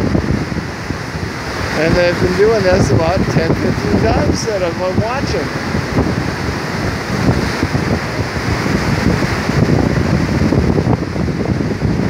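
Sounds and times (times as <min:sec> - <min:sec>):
river rapids rushing: 0:00.0 - 0:12.0
wind buffeting microphone: 0:00.0 - 0:12.0.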